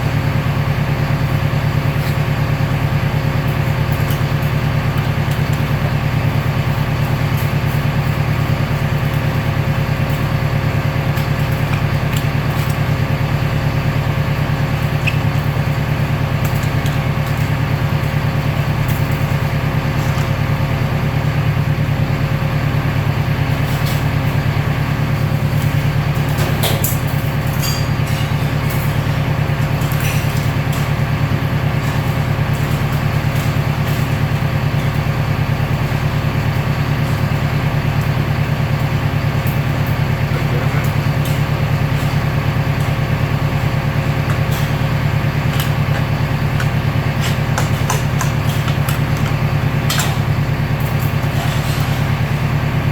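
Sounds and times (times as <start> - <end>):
recycling baler running: 0.0 - 52.9.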